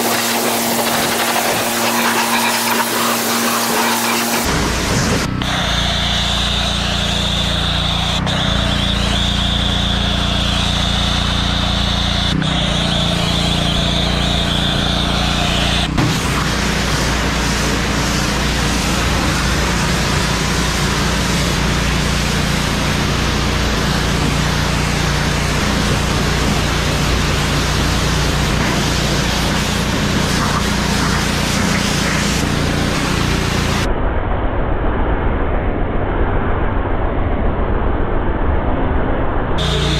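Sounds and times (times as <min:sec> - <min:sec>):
pressure washer motor hum: 0:00.0 - 0:33.9, 0:39.6 - 0:39.9
water spray hissing: 0:00.0 - 0:33.9, 0:39.6 - 0:39.9.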